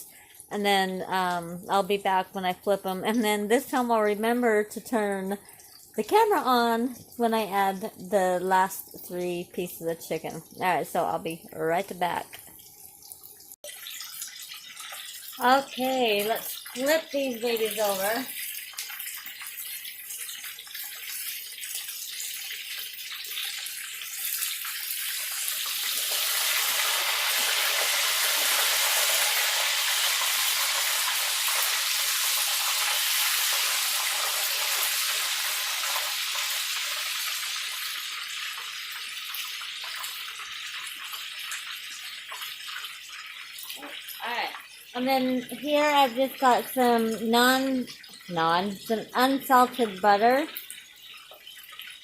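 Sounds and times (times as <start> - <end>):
chicken sizzling in hot oil: 0.0 - 52.0.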